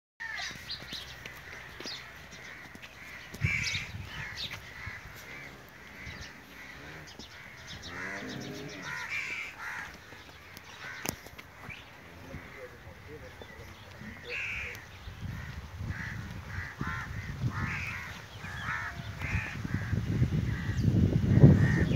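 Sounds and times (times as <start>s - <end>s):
birds calling: 0.2s - 21.9s.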